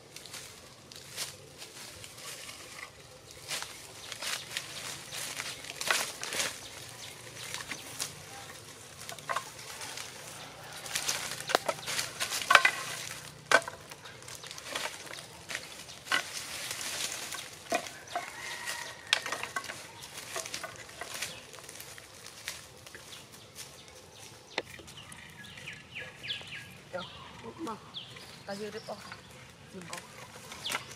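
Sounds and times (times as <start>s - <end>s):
dry leaves crunching underfoot: 0.0s - 30.9s
dry sticks cracking and clattering: 0.0s - 30.9s.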